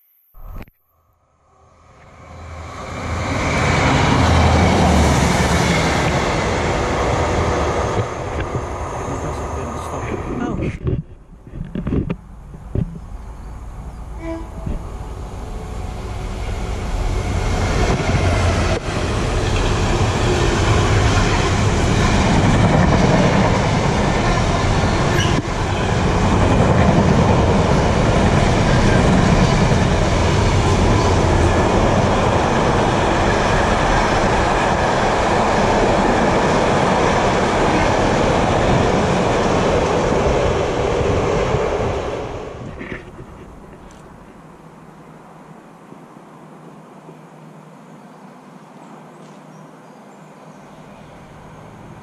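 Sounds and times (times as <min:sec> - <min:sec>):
freight train passing: 0:01.4 - 0:11.4, 0:12.2 - 0:49.2, 0:49.8 - 0:52.0.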